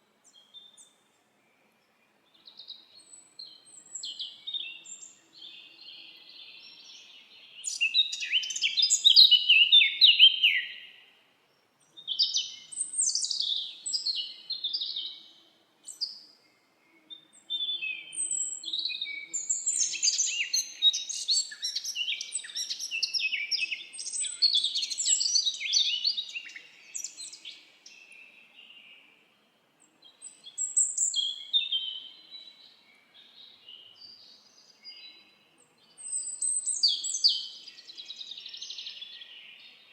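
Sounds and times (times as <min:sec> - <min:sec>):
songbirds twittering: 0:00.2 - 0:11.1, 0:11.8 - 0:39.9.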